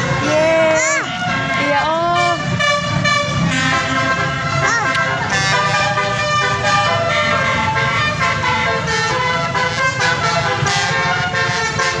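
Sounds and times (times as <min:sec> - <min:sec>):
musical air horn playing notes: 0:00.0 - 0:12.0.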